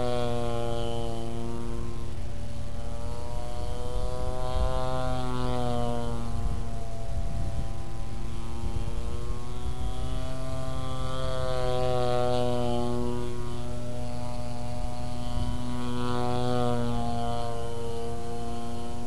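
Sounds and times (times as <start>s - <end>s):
model airplane engine and propeller: 0.0s - 19.0s.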